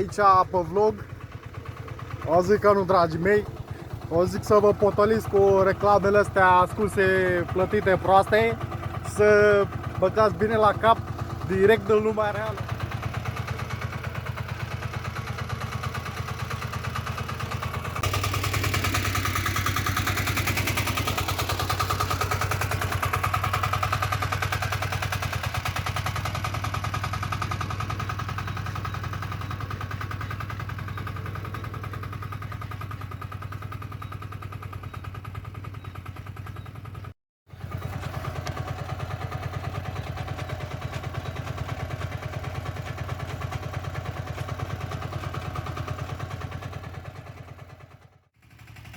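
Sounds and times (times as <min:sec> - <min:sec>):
diesel engine knocking: 0:00.0 - 0:48.9.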